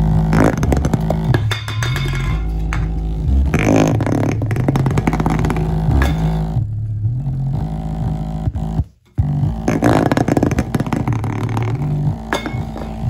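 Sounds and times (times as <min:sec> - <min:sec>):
bass line from a speaker: 0:00.0 - 0:13.0
cardboard box vibrating and buzzing: 0:00.0 - 0:13.0.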